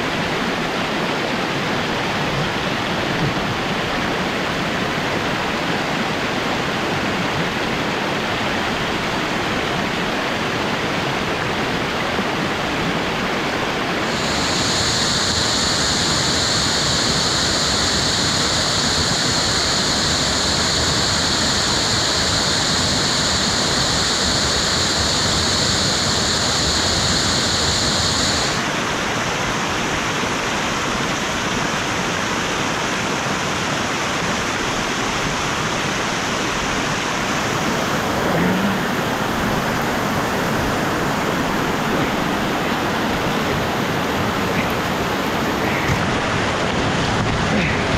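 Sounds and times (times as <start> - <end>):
waterfall rushing over rocks: 0.0 - 47.9.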